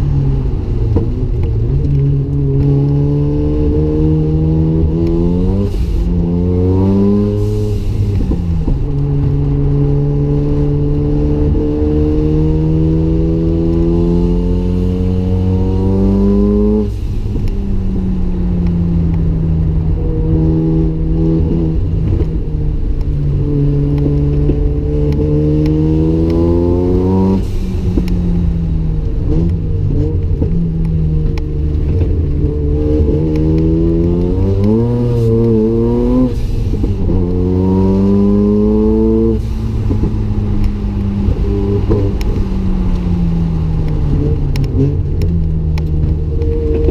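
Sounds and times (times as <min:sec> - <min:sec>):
rotary engine accelerating hard: 0:00.0 - 0:46.9.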